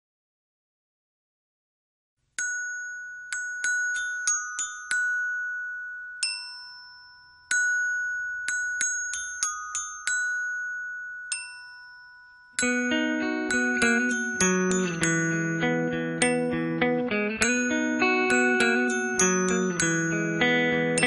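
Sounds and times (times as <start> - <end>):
glockenspiel-like melody: 2.4 - 21.0.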